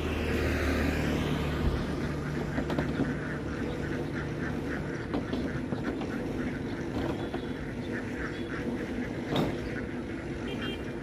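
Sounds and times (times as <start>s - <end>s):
flock of ducks quacking: 0.0s - 11.0s.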